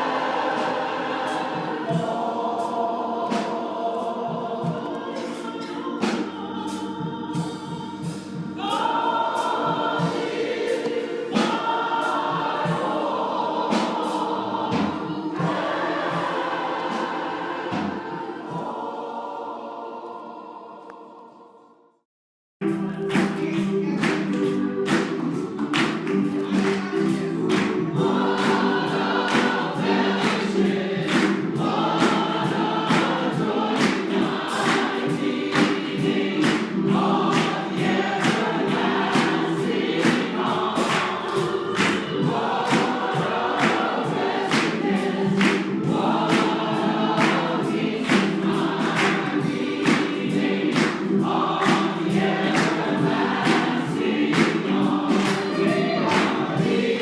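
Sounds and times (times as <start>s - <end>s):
congregation singing gospel song: 0.0s - 21.9s, 22.6s - 57.0s.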